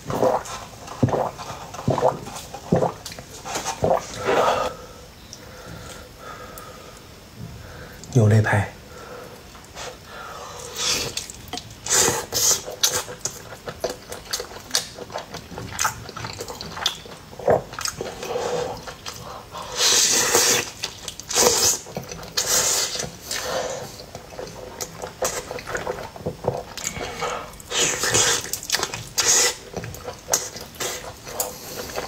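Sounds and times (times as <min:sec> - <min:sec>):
slurping: 0:00.0 - 0:05.0, 0:09.7 - 0:32.0
man chewing wetly: 0:00.0 - 0:07.1, 0:08.9 - 0:32.0.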